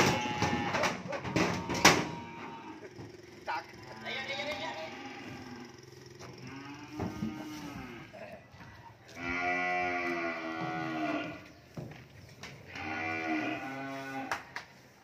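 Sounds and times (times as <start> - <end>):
cattle mooing: 0.0 - 8.4, 9.1 - 11.5, 12.7 - 14.5.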